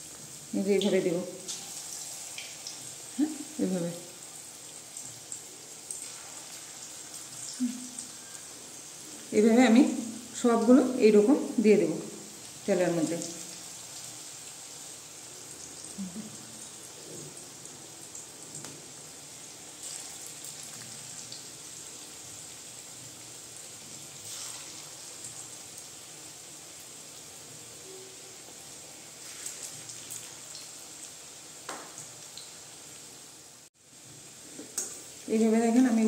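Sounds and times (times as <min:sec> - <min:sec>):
food deep-frying in oil: 0:00.0 - 0:36.0.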